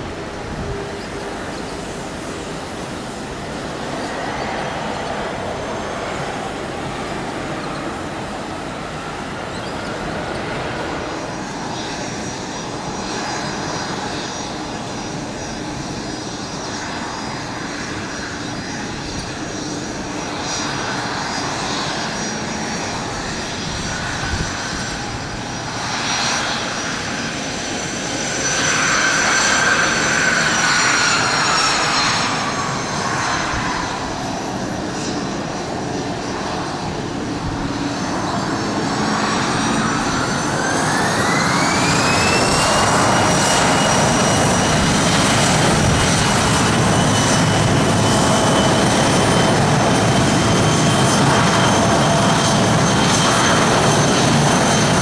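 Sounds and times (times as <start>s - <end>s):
jet engines rushing and whining: 0.0s - 55.0s.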